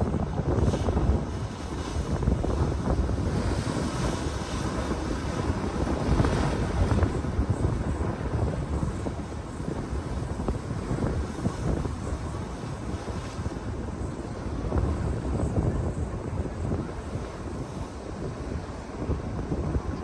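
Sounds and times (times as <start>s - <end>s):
ocean waves breaking: 0.0s - 20.0s
wind rumbling on microphone: 0.0s - 20.0s.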